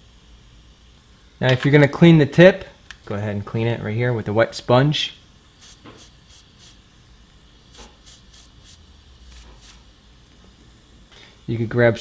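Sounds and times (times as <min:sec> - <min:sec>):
soldering iron hissing on wet sponge: 0:00.0 - 0:12.0.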